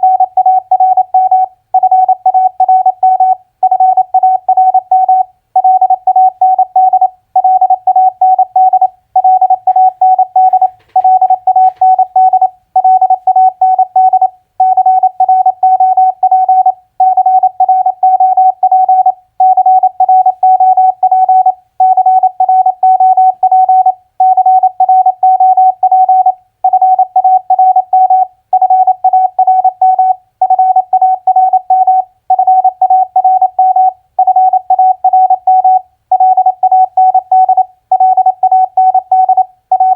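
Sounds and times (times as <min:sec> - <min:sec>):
morse code tone beeping: 0:00.0 - 0:39.9.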